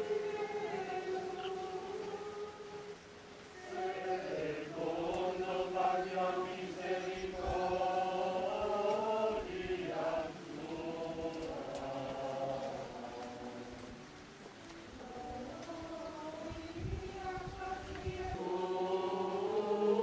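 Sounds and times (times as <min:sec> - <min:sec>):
group singing a chant: 0:00.0 - 0:14.3, 0:15.0 - 0:20.0.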